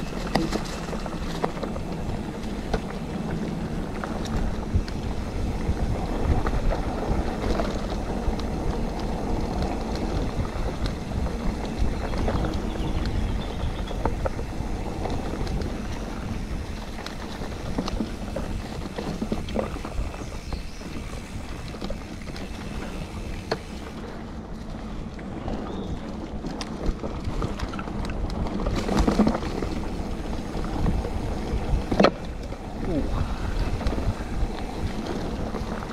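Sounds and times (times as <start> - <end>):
bike knocking and rattling: 0.0 - 35.9
bike tyres rolling on dirt: 0.0 - 35.9
wind on microphone: 0.0 - 35.9.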